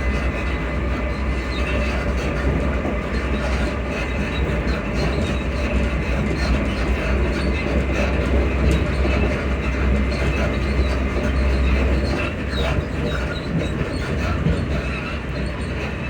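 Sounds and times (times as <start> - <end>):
train interior rumble: 0.0 - 16.0
wheels clattering over rail joints: 0.0 - 16.0.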